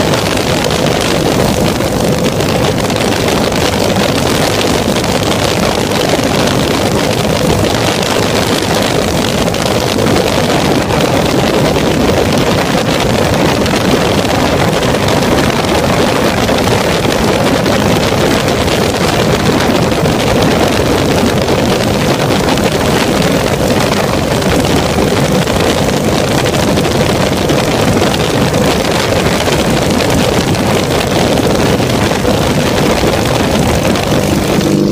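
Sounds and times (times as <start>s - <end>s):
aircraft engine drone: 0.0s - 34.9s
wind buffeting microphone: 0.0s - 34.9s.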